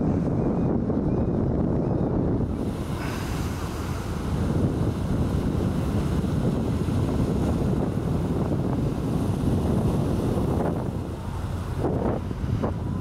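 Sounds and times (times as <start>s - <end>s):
wind on microphone: 0.0s - 13.0s
waves washing against rocks: 2.5s - 13.0s.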